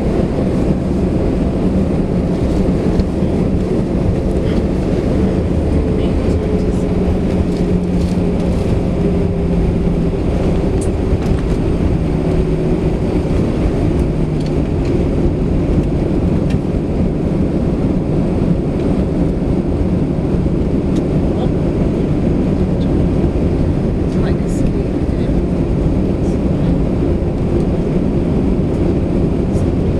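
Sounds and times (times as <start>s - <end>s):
aircraft cabin rumble: 0.0s - 29.9s.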